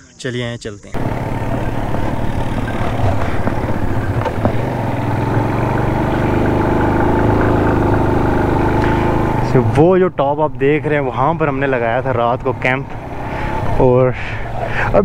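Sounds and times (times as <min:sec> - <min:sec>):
motorcycle engine climbing: 0:01.0 - 0:15.0.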